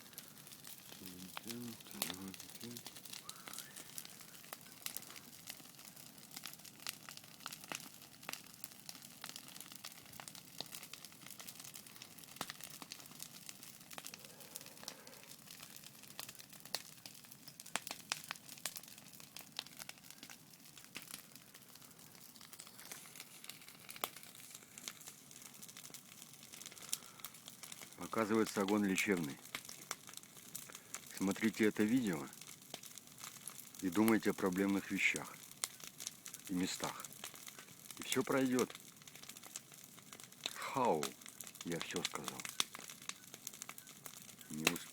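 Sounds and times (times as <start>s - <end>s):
bonfire crackling and popping: 0.0s - 44.9s.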